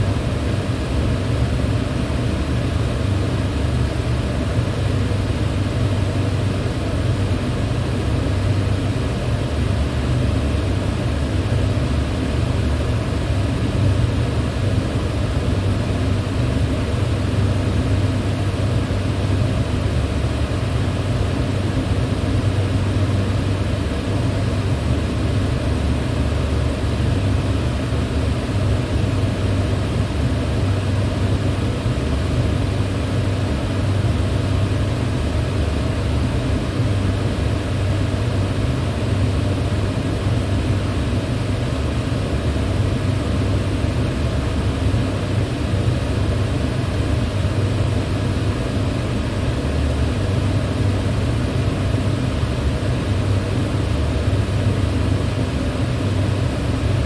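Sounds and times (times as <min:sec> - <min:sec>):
electric fan running: 0:00.0 - 0:57.0.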